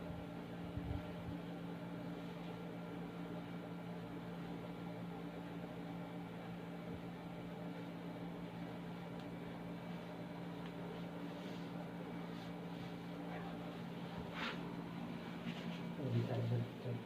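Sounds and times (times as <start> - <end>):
machine electrical hum and hiss: 0.0 - 17.0.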